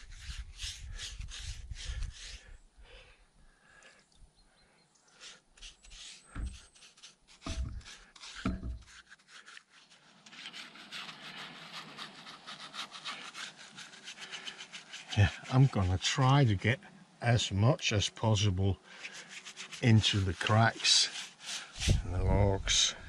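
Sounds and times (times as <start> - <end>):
rubbing strokes on rough wood: 0.0 - 2.6, 5.1 - 17.4, 18.0 - 23.0.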